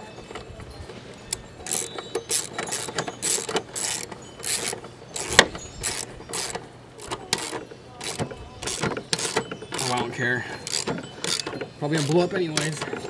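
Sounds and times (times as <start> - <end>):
ratchet wrench rasping: 1.3 - 13.0.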